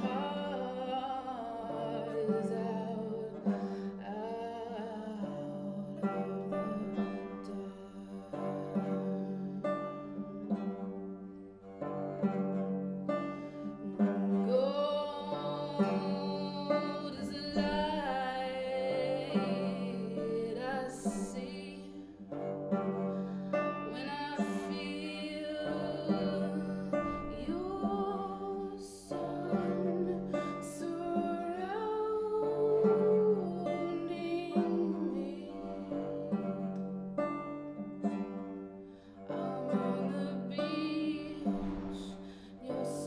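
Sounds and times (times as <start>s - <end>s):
woman singing: 0.0s - 10.9s, 12.8s - 38.4s, 39.0s - 43.0s
banjo accompaniment: 0.0s - 43.0s.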